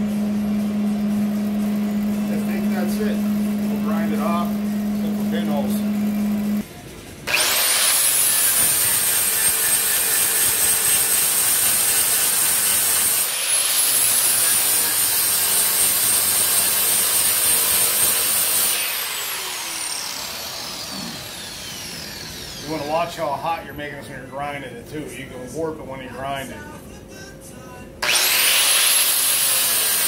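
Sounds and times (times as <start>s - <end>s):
angle grinder grinding metal: 0.0s - 6.6s, 7.3s - 23.1s, 28.0s - 30.0s.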